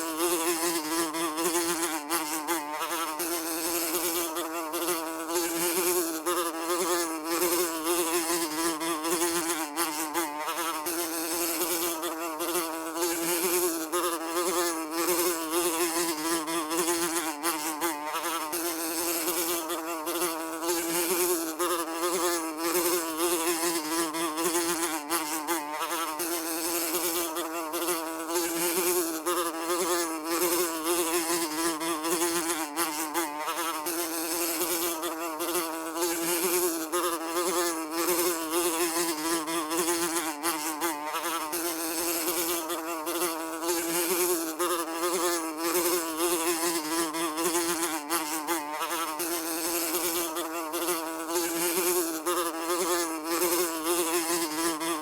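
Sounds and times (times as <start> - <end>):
fly buzzing: 0.0 - 55.0.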